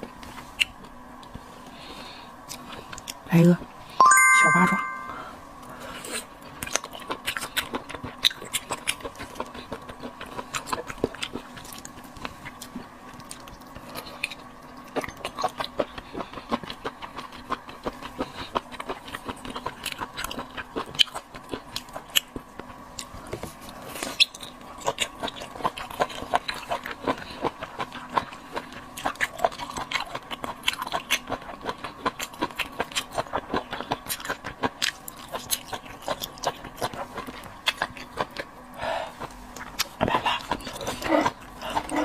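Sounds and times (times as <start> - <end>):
faint steady hum: 0.0 - 42.0
wet chewing clicks and smacks: 2.5 - 3.2, 6.4 - 23.2, 24.1 - 38.5, 39.2 - 42.0.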